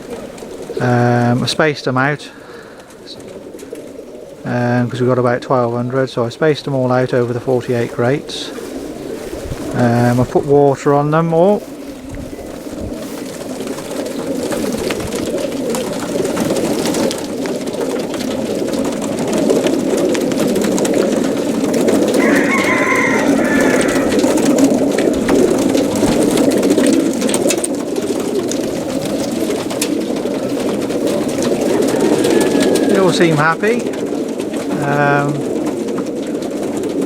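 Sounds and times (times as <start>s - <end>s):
pigeons cooing: 0.0s - 37.0s.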